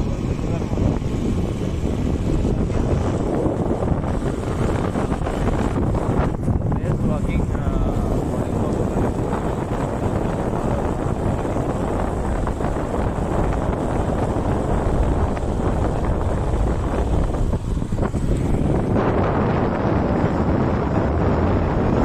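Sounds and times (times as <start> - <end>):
motorcycle running: 0.0 - 22.0
road noise: 0.0 - 22.0
wind buffeting microphone: 0.0 - 22.0.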